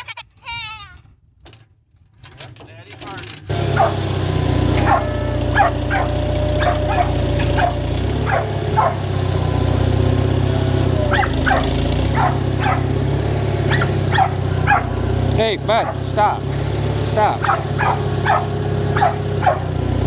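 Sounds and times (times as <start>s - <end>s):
engine running: 3.0s - 20.0s
dog barking: 3.6s - 19.8s.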